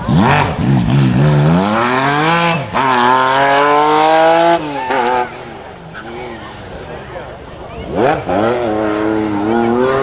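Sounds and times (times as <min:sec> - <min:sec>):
rally car engine accelerating: 0:00.0 - 0:07.0, 0:07.7 - 0:10.0.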